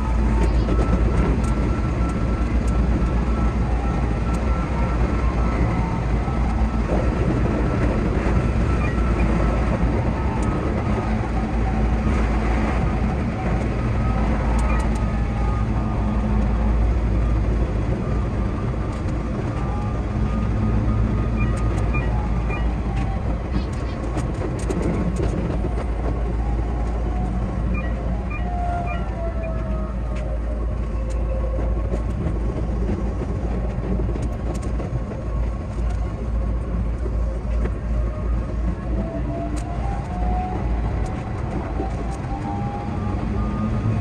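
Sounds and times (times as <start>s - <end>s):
electric train running: 0.0s - 44.0s
train passing: 0.0s - 44.0s
wheels clicking on rails: 0.0s - 44.0s.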